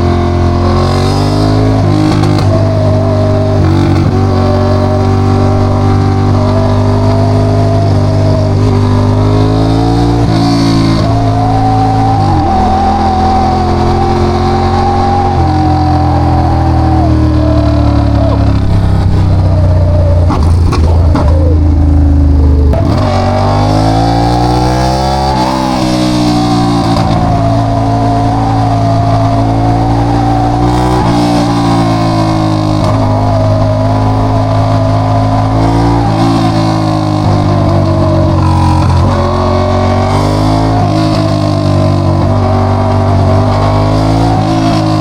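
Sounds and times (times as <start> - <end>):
motorcycle engine revving loud: 0.0 - 45.0.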